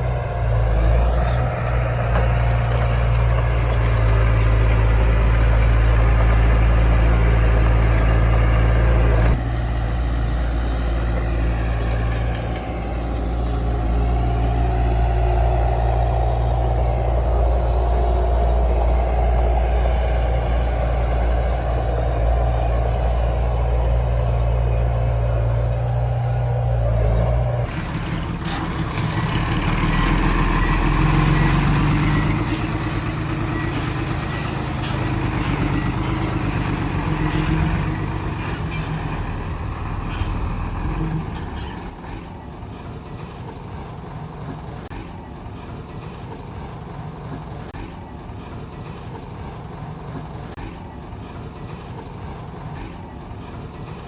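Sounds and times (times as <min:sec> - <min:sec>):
diesel engine under varying load: 0:00.0 - 0:54.0.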